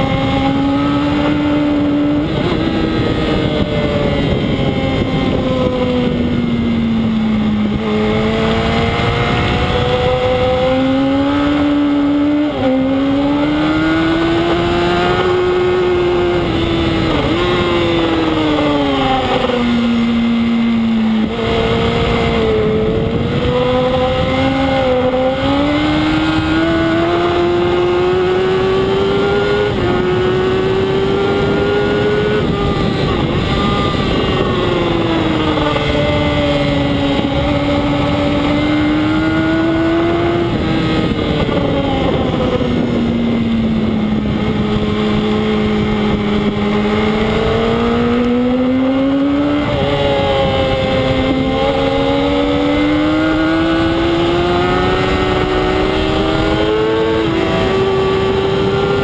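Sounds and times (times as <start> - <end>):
motorcycle engine running hard: 0.0 - 59.0.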